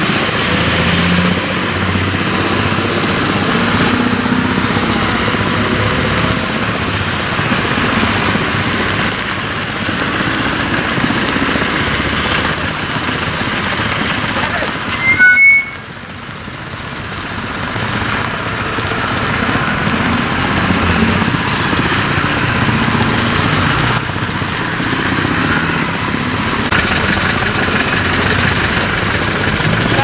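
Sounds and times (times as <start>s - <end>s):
rain hiss on wet road: 0.0s - 15.0s, 15.8s - 30.0s
vehicle engines running: 0.0s - 30.0s.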